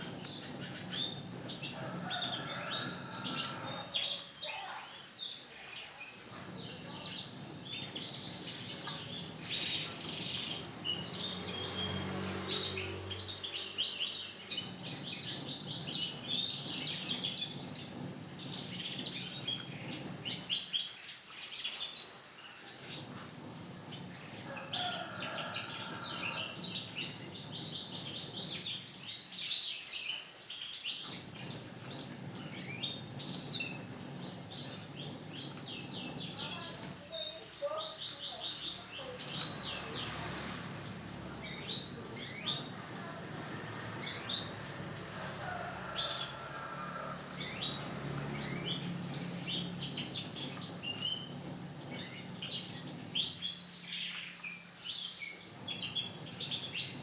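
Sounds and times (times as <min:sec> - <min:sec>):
canary chirps and trills: 0:00.0 - 0:57.0.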